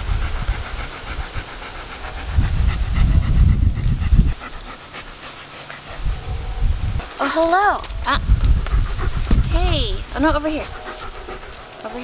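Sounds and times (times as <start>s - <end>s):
dog panting: 0.0s - 6.6s, 8.2s - 12.0s.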